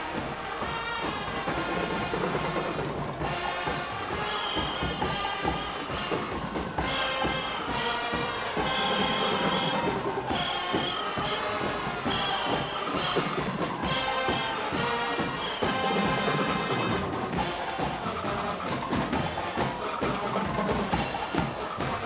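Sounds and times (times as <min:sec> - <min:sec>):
band music with brass: 0:00.0 - 0:22.0.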